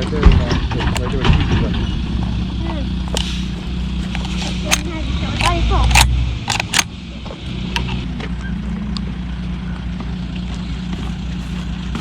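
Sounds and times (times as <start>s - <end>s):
low engine-like hum: 0.0s - 12.0s.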